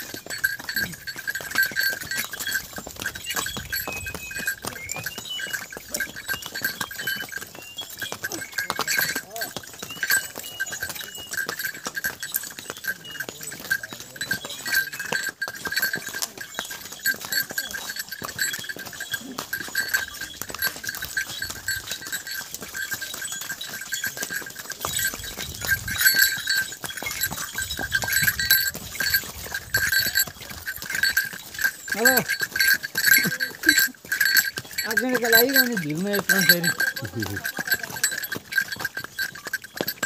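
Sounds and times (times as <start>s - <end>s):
horse hooves on cobblestones: 0.0s - 40.0s
small bells jingling: 0.0s - 40.0s.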